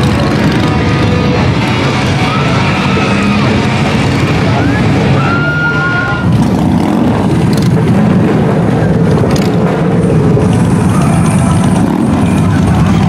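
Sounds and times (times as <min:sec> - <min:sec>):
motorcycles riding past: 0:00.0 - 0:13.0.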